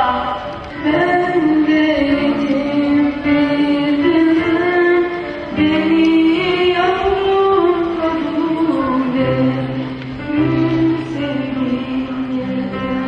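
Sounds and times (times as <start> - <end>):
woman singing a hymn: 0.0 - 13.0.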